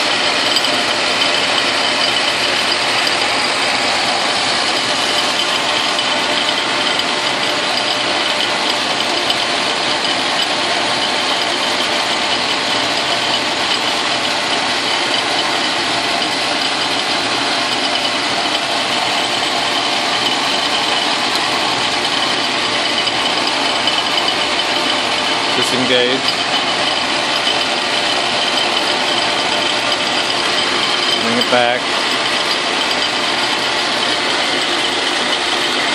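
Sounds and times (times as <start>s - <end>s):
cutter milling metal: 0.0s - 35.9s
metal lathe running: 0.0s - 35.9s.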